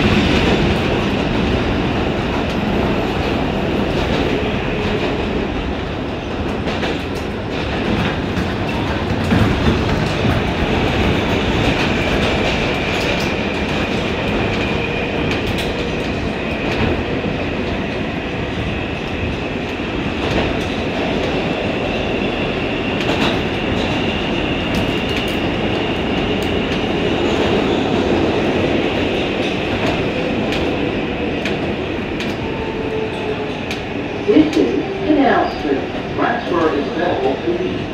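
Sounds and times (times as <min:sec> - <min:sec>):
subway wheels rumbling on rail: 0:00.0 - 0:37.9.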